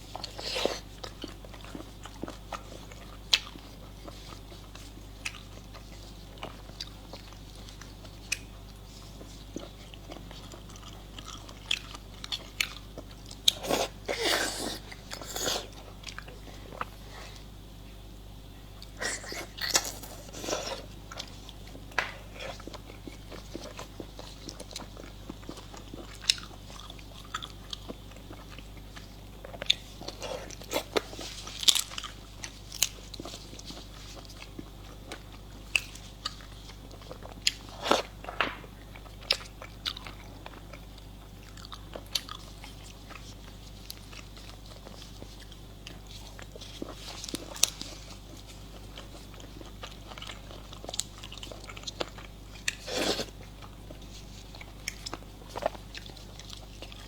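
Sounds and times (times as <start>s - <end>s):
person chewing and crunching: 0.0s - 17.5s, 18.8s - 57.0s.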